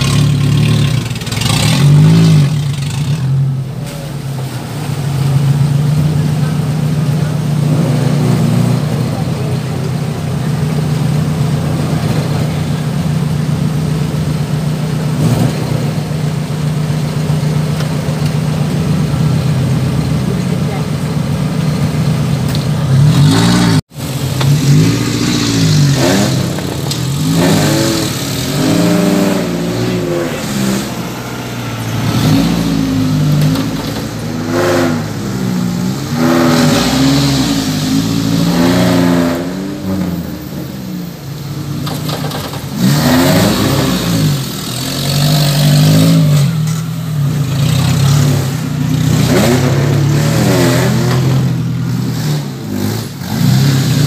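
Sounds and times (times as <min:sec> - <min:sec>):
engine revving: 0:00.0 - 0:13.7, 0:14.6 - 0:54.0.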